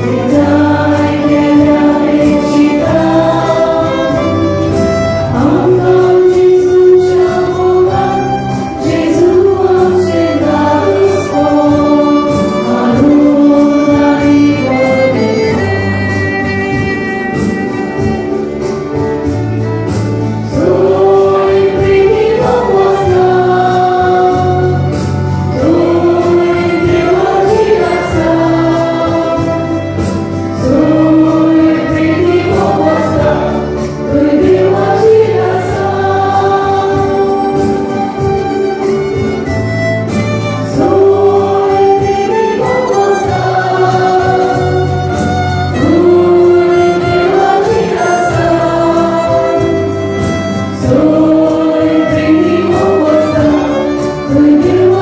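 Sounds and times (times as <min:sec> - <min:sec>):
church choir singing a hymn: 0:00.0 - 0:55.0
violin: 0:00.0 - 0:55.0.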